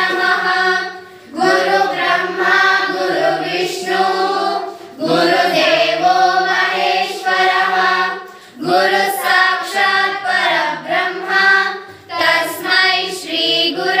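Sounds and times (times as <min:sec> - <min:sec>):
children singing together: 0:00.0 - 0:14.0.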